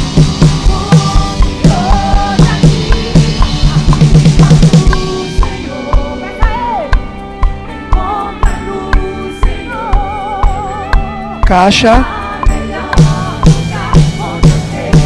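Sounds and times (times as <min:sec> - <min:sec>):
drum kit beat: 0:00.0 - 0:15.0
person singing with vibrato: 0:00.0 - 0:15.0.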